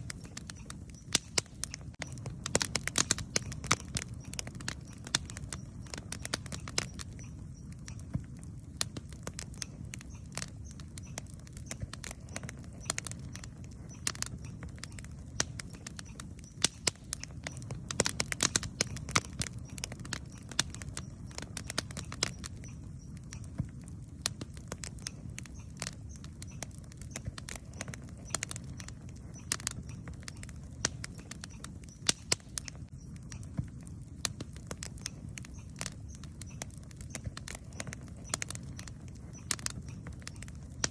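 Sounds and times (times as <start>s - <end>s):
campfire crackling and popping: 0.0s - 40.9s
low rumble of fire: 0.0s - 40.9s.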